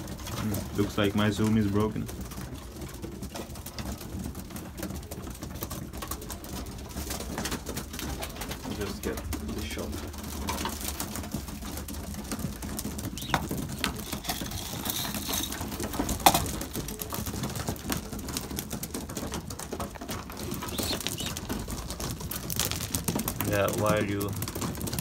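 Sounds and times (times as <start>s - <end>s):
pigeons making low calls: 0.0s - 25.0s.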